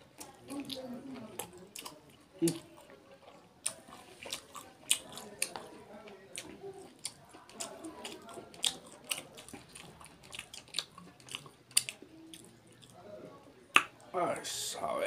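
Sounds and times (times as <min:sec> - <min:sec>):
chewing with wet lip smacks: 0:00.1 - 0:13.0.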